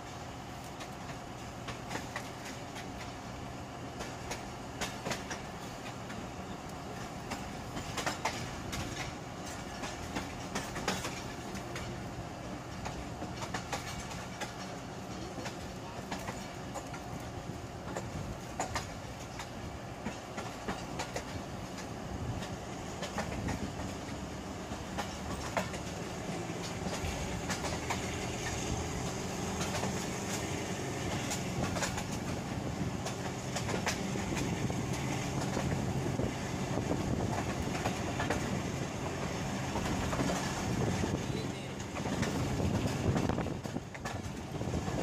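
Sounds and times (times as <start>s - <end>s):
train rumbling: 0.0s - 45.0s
wheels clacking over rail joints: 0.0s - 45.0s.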